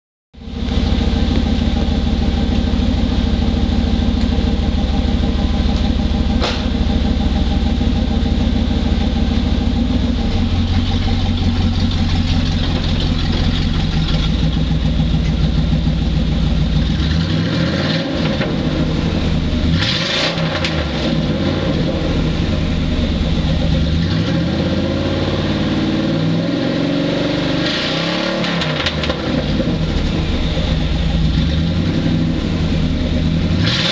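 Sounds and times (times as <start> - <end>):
truck engine idling and revving: 0.4 - 33.9.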